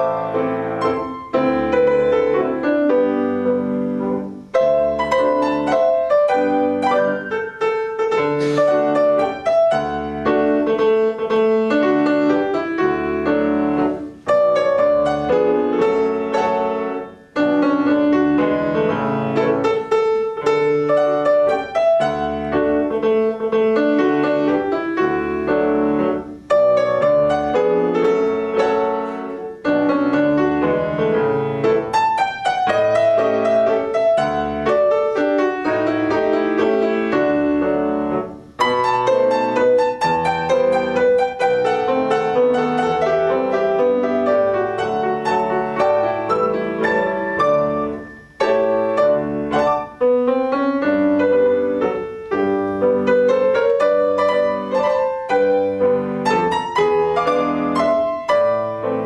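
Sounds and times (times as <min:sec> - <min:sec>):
classical piano duet: 0:00.0 - 0:59.0.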